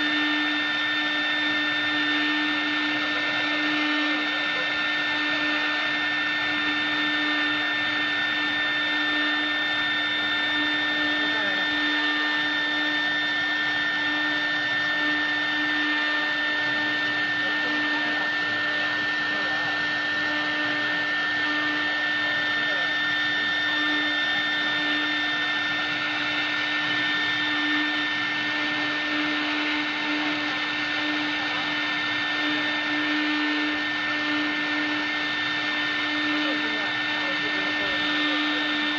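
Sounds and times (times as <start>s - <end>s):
router motor whine: 0.0s - 38.9s.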